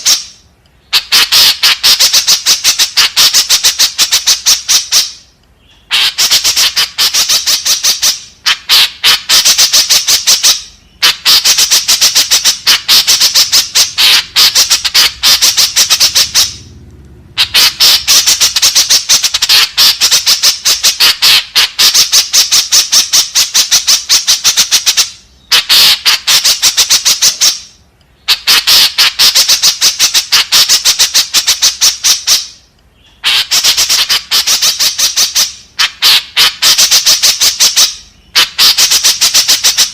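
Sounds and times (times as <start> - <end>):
bird harsh chattering calls: 0.0 - 39.9.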